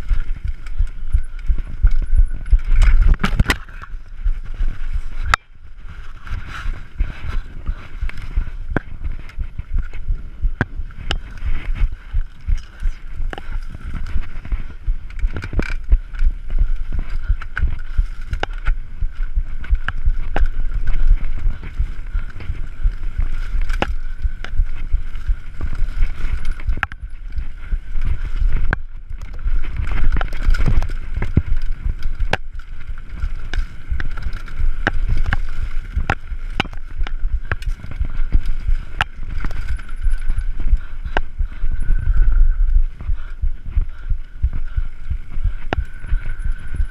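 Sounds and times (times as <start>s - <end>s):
bike rattling clicks and knocks: 0.0s - 42.4s
wind rumble on microphone: 0.0s - 46.9s.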